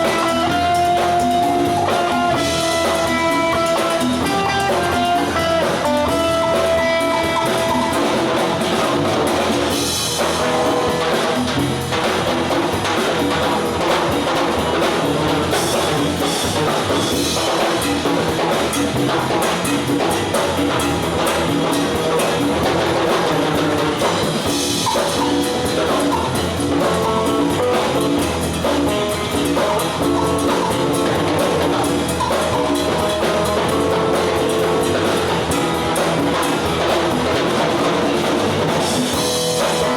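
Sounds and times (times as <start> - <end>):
drum kit beat: 0.0 - 39.9
guitar lines: 0.0 - 39.9.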